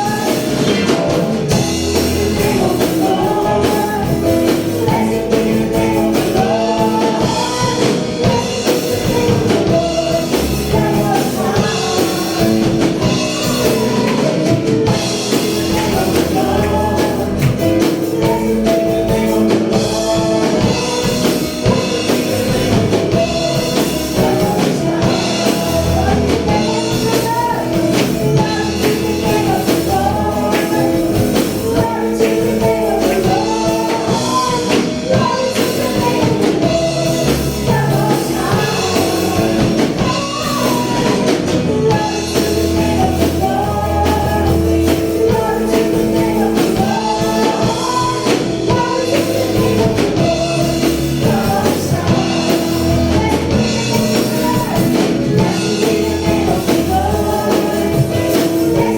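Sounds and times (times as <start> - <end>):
upbeat gospel song with singing: 0.0 - 58.9.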